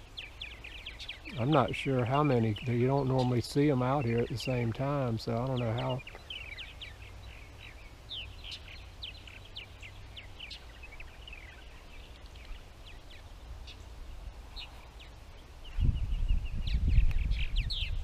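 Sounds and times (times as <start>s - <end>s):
birds chirping and squeaking: 0.0s - 18.0s.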